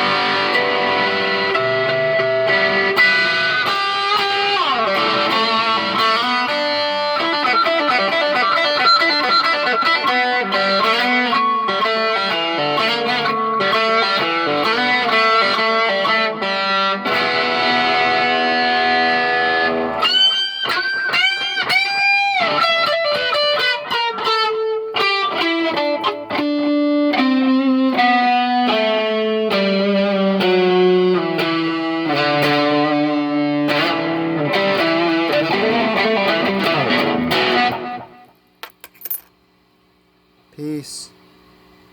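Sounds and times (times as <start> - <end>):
distorted electric guitar solo: 0.0 - 38.3.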